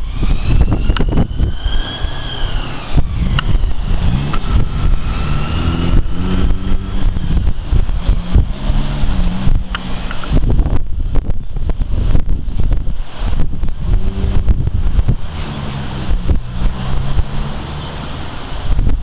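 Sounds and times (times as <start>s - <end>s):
engine: 0.0s - 19.0s
wind buffeting microphone: 0.0s - 19.0s.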